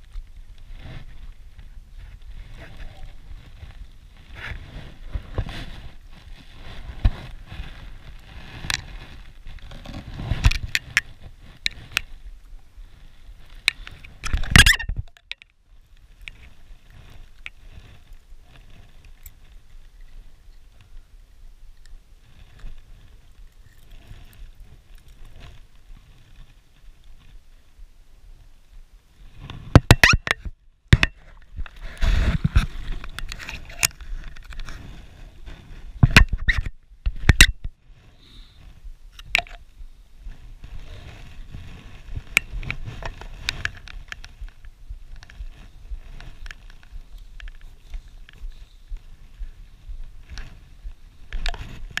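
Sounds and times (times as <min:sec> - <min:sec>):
scraping and rustling on gravel: 0:00.0 - 0:21.1, 0:21.8 - 0:28.5, 0:29.1 - 0:52.0.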